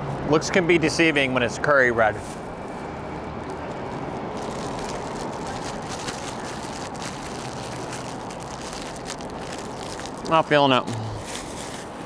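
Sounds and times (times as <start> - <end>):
outdoor background noise: 0.0 - 12.0
faint crackles and clicks: 2.2 - 12.0.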